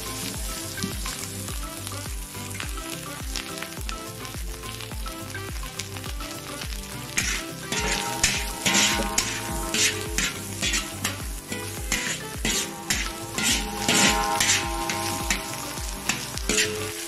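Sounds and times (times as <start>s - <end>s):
music with steady beat: 0.0s - 17.0s
shrimp sizzling in oil: 0.0s - 17.0s.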